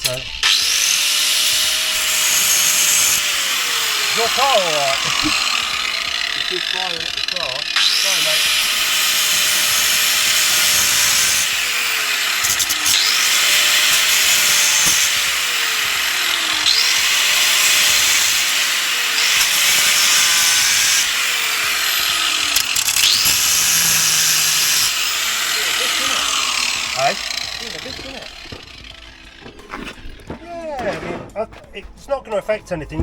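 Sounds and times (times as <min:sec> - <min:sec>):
angle grinder cutting bolt: 0:00.0 - 0:30.4.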